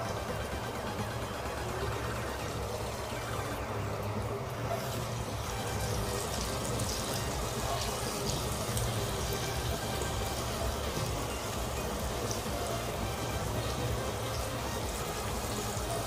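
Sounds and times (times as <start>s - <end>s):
batter sizzling in hot oil: 0.0s - 16.0s
small crackles of frying: 2.4s - 16.0s.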